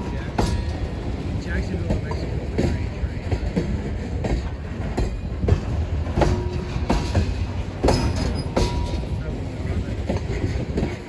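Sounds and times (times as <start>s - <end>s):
train rumble: 0.0s - 11.0s
wheels clacking over rail joints: 0.0s - 11.0s.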